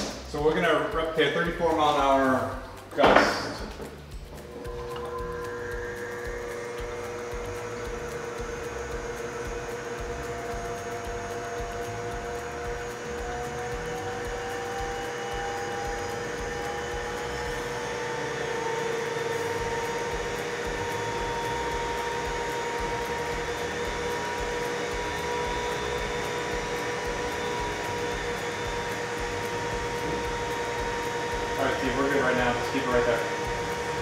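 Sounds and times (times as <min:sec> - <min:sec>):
vacuum blower whining: 0:00.0 - 0:34.0.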